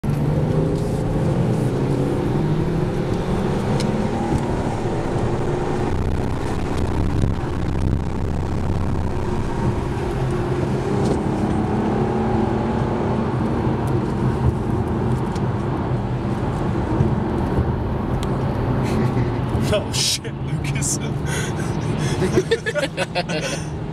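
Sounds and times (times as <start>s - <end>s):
car engine accelerating hard: 0.0s - 23.9s
road and wind noise: 0.0s - 23.9s.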